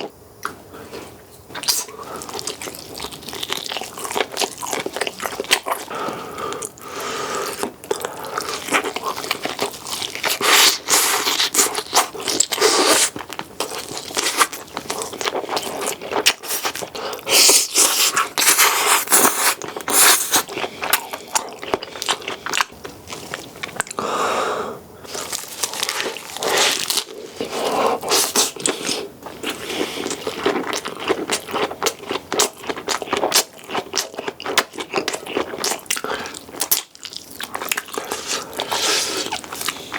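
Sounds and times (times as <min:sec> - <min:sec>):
chewing and biting food: 0:01.5 - 0:24.0, 0:25.1 - 0:39.9.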